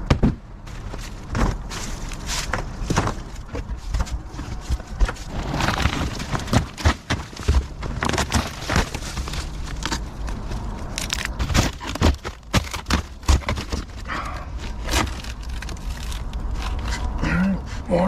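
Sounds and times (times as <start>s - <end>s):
tools clicking and scraping on engine: 0.7s - 17.2s.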